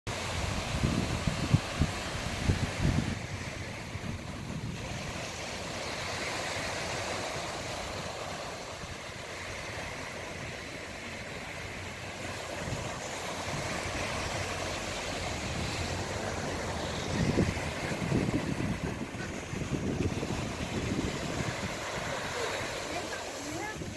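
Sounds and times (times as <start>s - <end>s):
sea surf breaking on shore: 0.1s - 23.9s.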